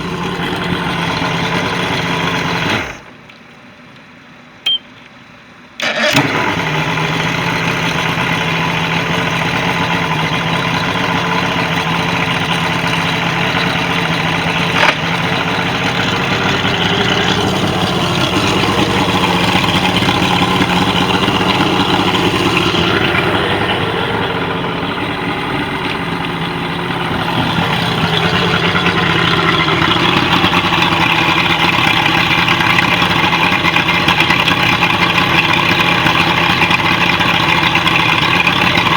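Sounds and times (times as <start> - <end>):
outboard motor running: 0.0 - 3.2, 5.8 - 38.9.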